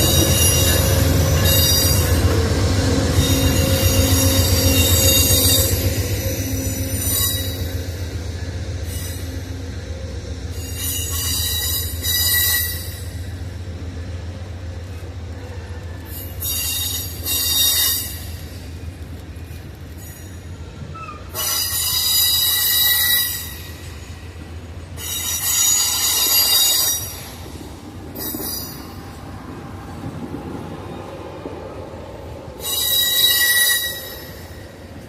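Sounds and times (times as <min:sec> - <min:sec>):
train wheels squealing: 0:00.0 - 0:13.4, 0:15.4 - 0:18.9, 0:19.5 - 0:24.4, 0:25.0 - 0:29.2, 0:32.5 - 0:35.0
low rumble of moving train: 0:00.0 - 0:35.0.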